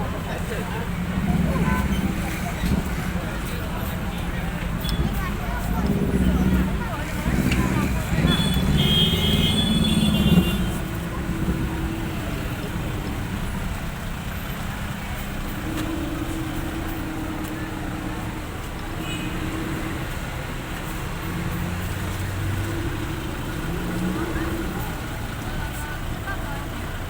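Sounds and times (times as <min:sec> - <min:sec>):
engine hums: 0:00.0 - 0:27.0
traffic rumble: 0:00.0 - 0:27.0.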